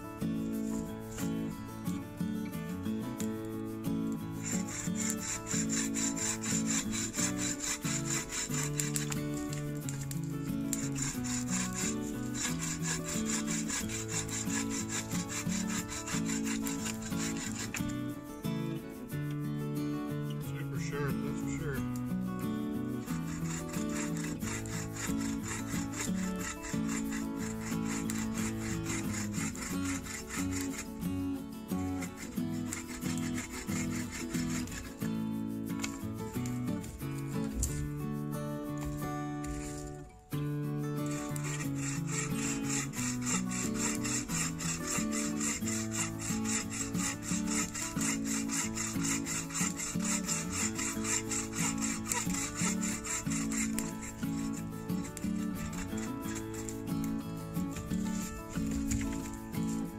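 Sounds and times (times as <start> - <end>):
bow saw cutting log: 0.0 - 2.0, 3.1 - 18.2, 20.5 - 22.1, 22.8 - 37.9, 38.6 - 40.2, 41.0 - 59.9
background music: 0.0 - 59.9.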